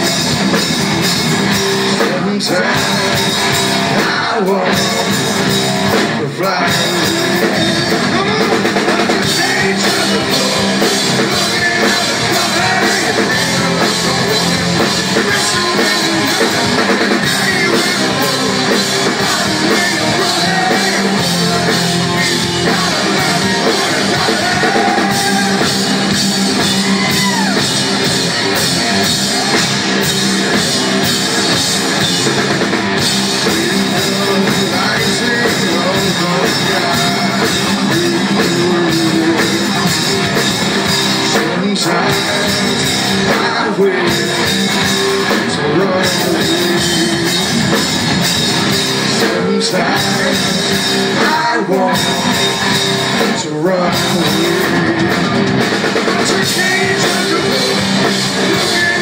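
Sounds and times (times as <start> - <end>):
live hard rock band: 0.0 - 59.0.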